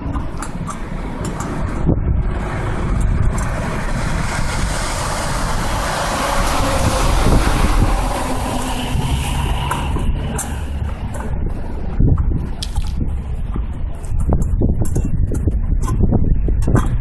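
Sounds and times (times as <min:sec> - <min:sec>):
car exhaust rumble: 0:00.0 - 0:17.0.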